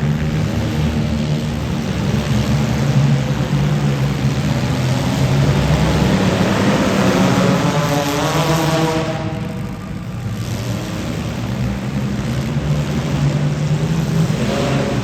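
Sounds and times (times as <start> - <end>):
car engines running hard: 0.0 - 15.0
engine revving high: 0.0 - 15.0.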